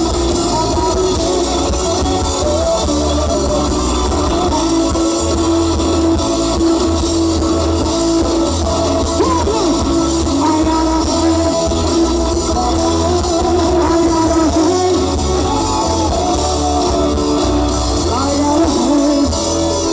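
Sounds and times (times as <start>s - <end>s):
drum kit beat: 0.0s - 19.9s
electric guitars: 0.0s - 19.9s
heavy bass line: 0.0s - 19.9s.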